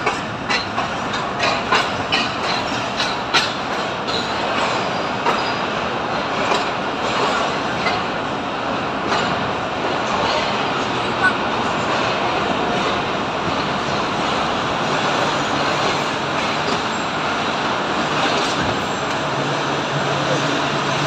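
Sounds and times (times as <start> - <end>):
wheels clicking over rail joints: 0.0 - 19.4
train rumbling: 0.0 - 21.0.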